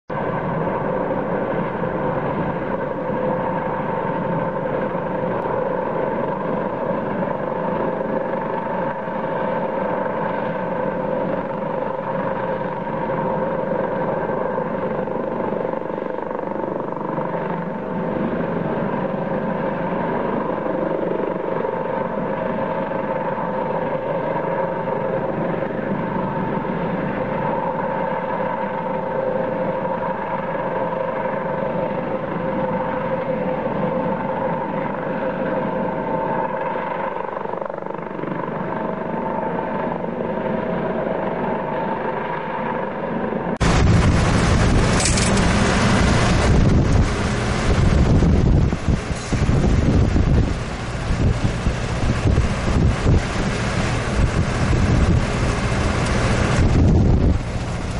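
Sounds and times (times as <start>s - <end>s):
helicopter engine and rotor drone: 0.1s - 57.9s.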